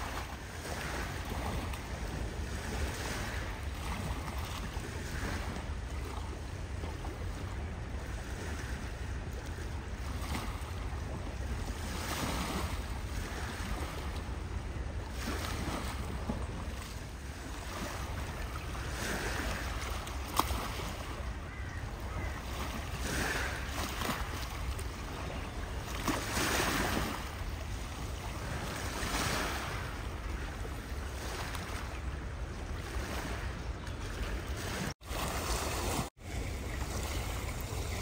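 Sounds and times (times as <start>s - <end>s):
small waves lapping on gravel: 0.0s - 14.4s, 15.0s - 38.0s
wind rumble on microphone: 0.0s - 38.0s.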